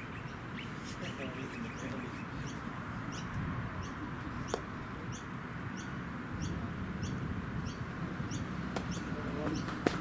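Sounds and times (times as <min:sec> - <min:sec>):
bird chirping high: 0:00.0 - 0:09.8.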